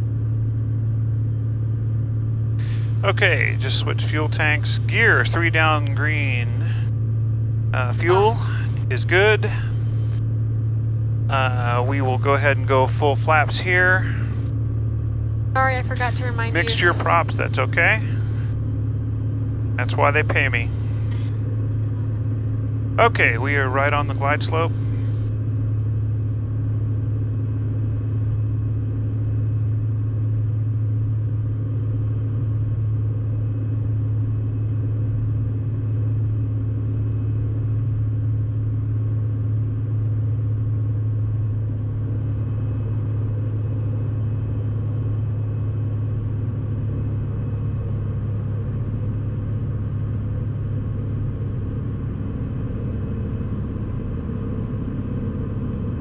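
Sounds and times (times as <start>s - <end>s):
propeller aircraft engine drone: 0.0s - 56.0s.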